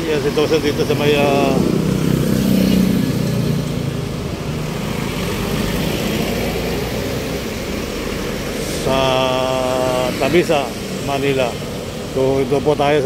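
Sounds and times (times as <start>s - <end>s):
traffic rumble: 0.0s - 13.0s
vehicle engines running: 0.0s - 13.0s.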